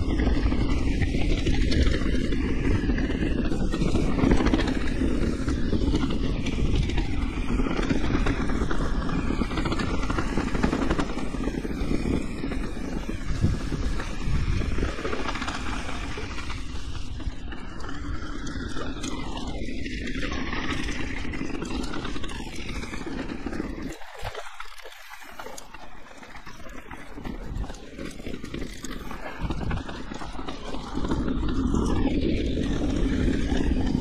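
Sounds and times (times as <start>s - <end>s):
bike tyre and frame rattle: 0.0s - 34.0s
wind buffeting: 0.0s - 34.0s.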